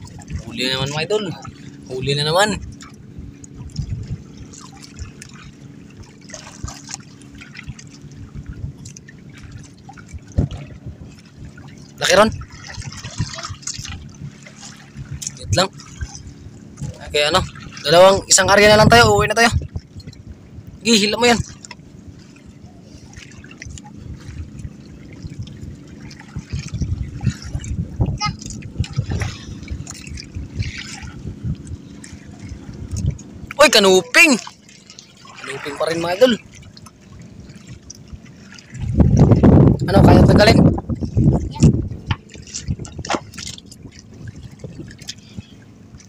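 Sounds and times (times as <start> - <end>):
waves lapping against boat hull: 0.0 - 46.0.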